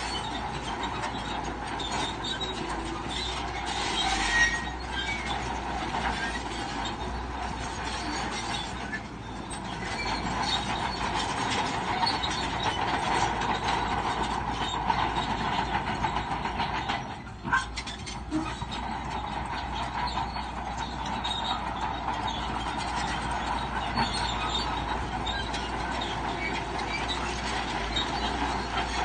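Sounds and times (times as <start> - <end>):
bulldozer engine running: 0.0 - 29.0
clatter of steel tracks: 0.0 - 29.0.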